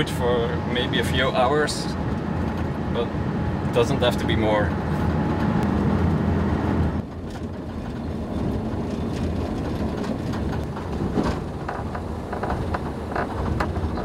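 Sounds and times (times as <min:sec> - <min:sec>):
van engine and road noise: 0:00.0 - 0:14.0.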